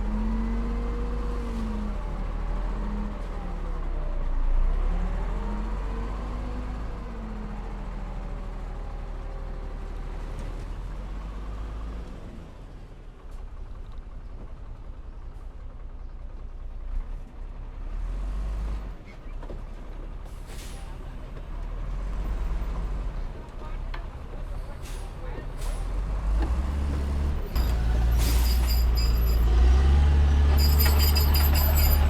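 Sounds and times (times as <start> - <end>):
heavy diesel engines rumbling: 0.0 - 32.0.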